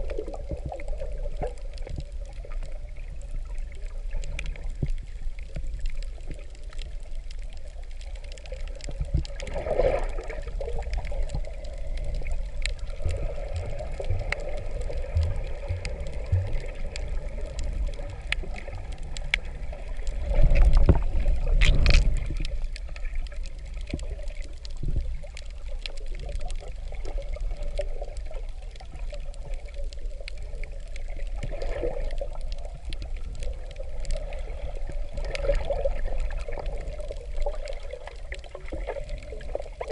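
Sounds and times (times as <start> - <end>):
muffled underwater water rumble: 0.0 - 39.9
sharp clicks and crackles: 0.0 - 39.9.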